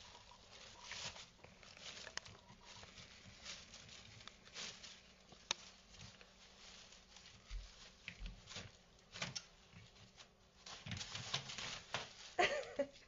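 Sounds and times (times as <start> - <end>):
dog paws scuffling on floor: 0.0 - 13.0.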